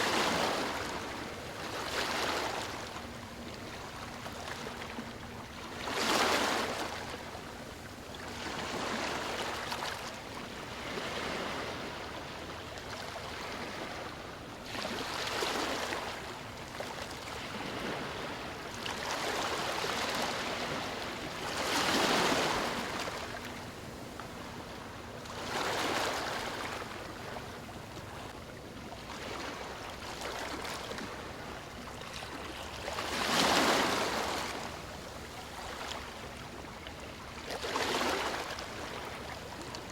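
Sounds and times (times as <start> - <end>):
ocean waves lapping on shore: 0.0 - 39.9.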